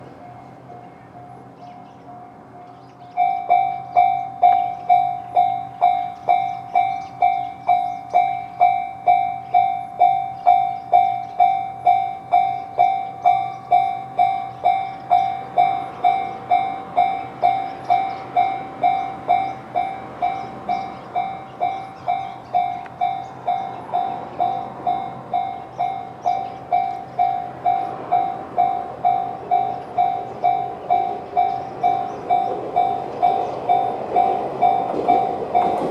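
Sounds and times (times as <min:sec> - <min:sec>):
faint alarm: 0:00.0 - 0:35.9
train rumble: 0:00.0 - 0:35.9
electronic crossing bell: 0:00.2 - 0:35.9.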